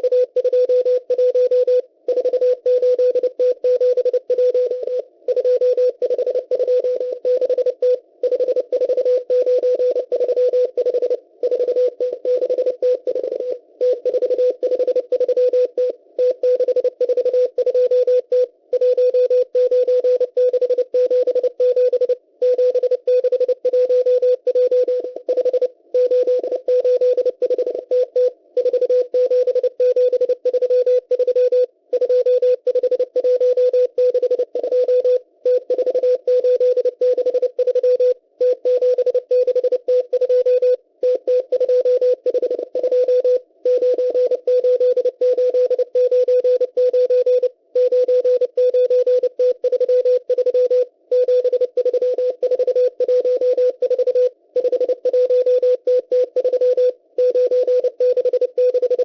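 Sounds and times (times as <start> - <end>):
morse code beep tone: 0.0 - 59.0.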